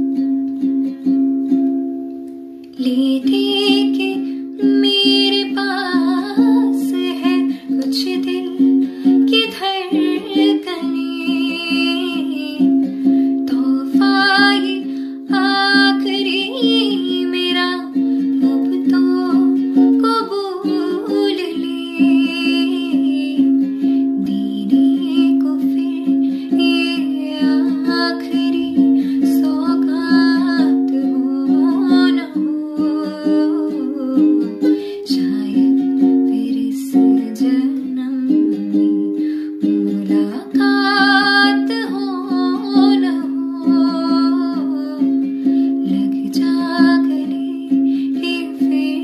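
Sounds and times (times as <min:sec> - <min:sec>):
ukulele strumming: 0:00.0 - 0:49.0
woman singing: 0:02.7 - 0:49.0.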